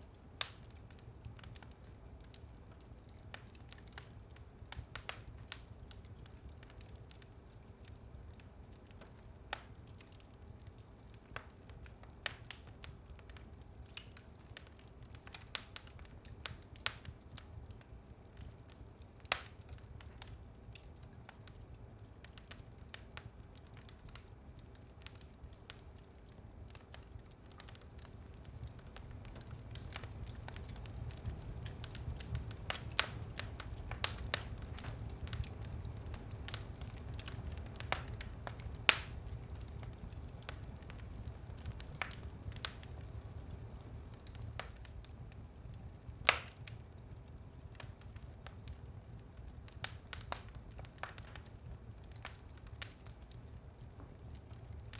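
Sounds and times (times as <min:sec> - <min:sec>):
low steady fire rumble: 0:00.0 - 0:54.9
wood fire crackling: 0:00.0 - 0:54.9.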